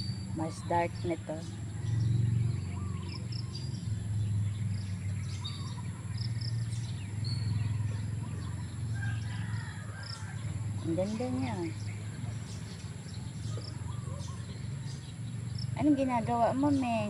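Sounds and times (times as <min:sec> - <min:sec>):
bird chirps: 0:00.0 - 0:17.0
steady low hum: 0:00.0 - 0:17.0.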